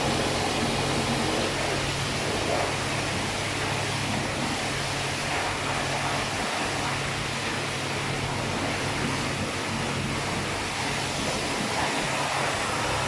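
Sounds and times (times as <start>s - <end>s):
water spray hitting car body: 0.0s - 13.0s.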